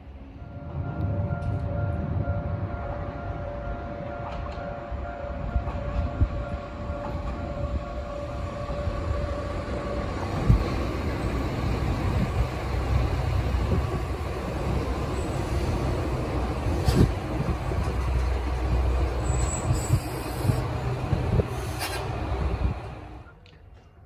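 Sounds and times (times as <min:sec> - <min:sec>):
diesel railcar engine: 0:00.0 - 0:24.0
train wheels on rails: 0:00.0 - 0:24.0.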